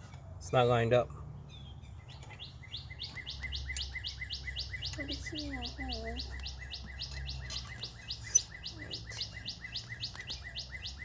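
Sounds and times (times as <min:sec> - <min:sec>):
bird fast high chirping: 0:01.6 - 0:11.0.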